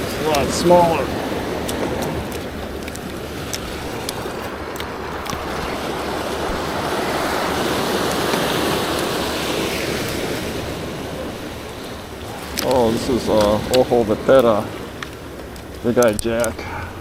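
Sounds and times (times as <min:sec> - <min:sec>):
ocean surf on rocks: 0:00.0 - 0:17.0.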